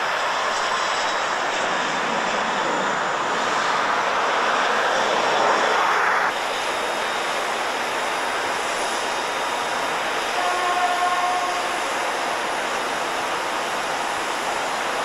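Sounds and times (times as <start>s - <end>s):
jet engine roaring on takeoff roll: 0.0s - 15.0s
low steady jet noise: 0.0s - 15.0s.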